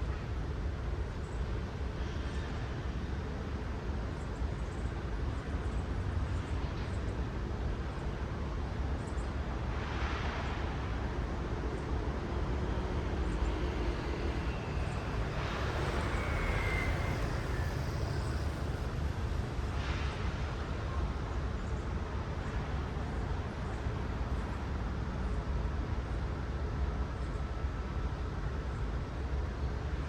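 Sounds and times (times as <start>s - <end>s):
cars passing with tyre hiss: 0.0s - 30.0s
low rumble of city traffic: 0.0s - 30.0s.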